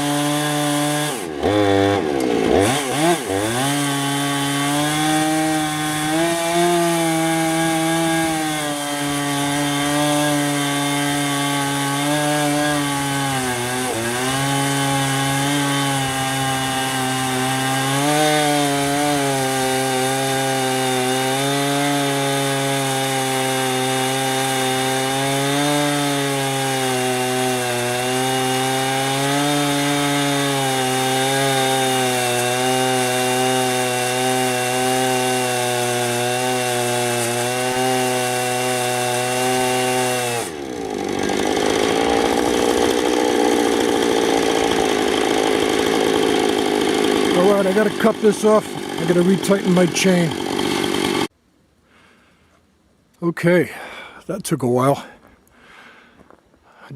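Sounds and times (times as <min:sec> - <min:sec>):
chainsaw cutting wood: 0:00.0 - 0:51.4.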